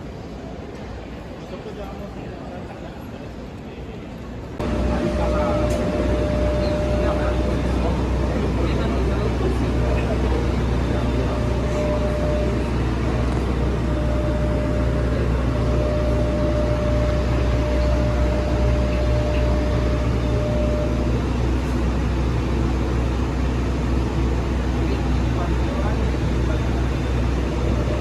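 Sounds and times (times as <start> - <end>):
low machinery hum: 4.5 - 28.0
air noise: 4.6 - 28.0
thin steady whine: 4.6 - 28.0.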